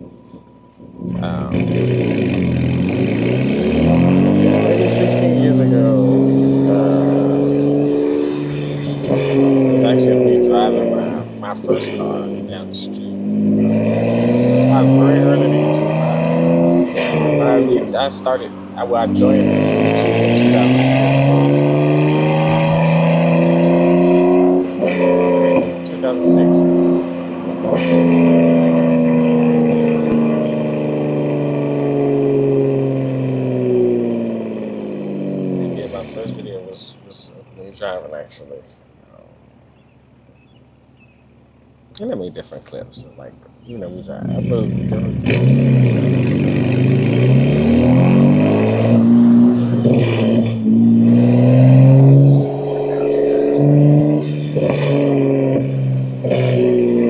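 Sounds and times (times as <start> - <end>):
car engine droning: 0.0 - 57.0.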